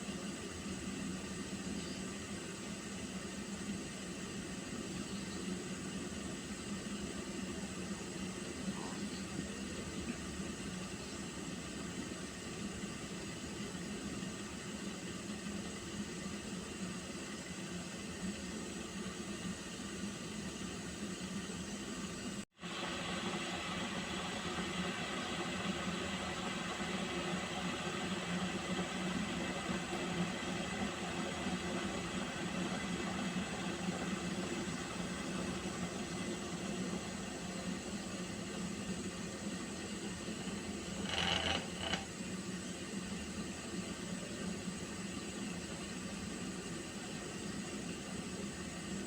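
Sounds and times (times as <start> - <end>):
water heating in a pot: 0.0 - 49.0.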